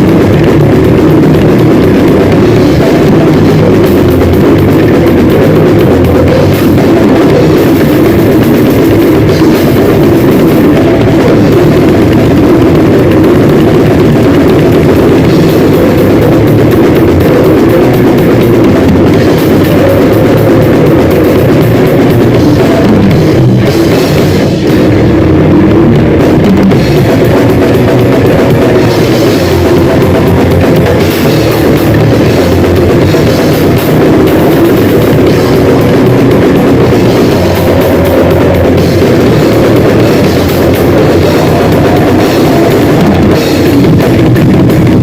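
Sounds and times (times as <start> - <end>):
fast drumming: 0.0 - 45.0
heavily distorted guitar: 0.0 - 45.0.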